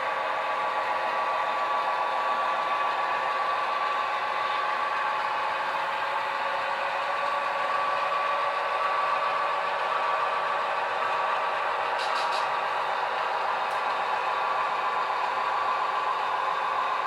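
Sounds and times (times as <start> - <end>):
wheels rumbling on track: 0.0 - 17.0.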